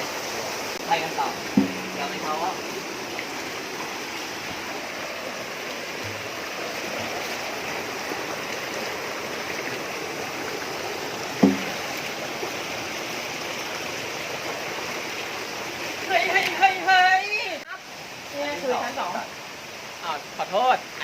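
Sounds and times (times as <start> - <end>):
waterfall rushing over rocks: 0.0 - 21.0.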